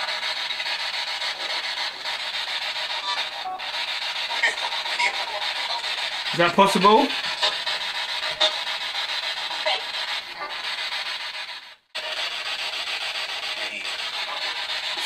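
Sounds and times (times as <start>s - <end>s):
radio static hiss: 0.0s - 10.6s, 12.0s - 15.0s.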